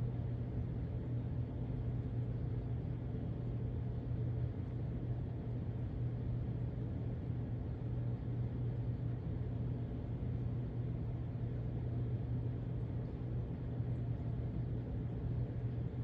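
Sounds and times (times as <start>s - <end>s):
aquarium pump motor hum: 0.0s - 16.0s.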